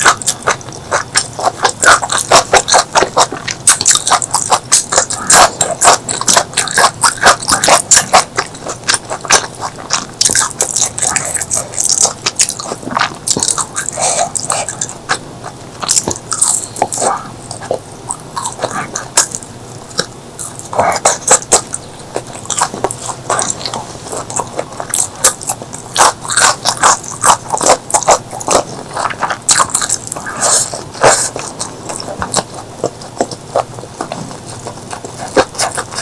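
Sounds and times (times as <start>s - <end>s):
crisp crunching and chewing: 0.0s - 36.0s.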